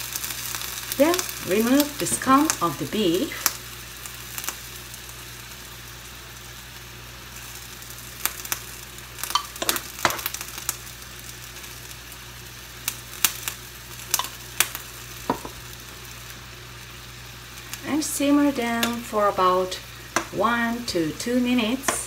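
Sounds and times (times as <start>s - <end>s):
sauce sizzling in frying pan: 0.0s - 22.0s.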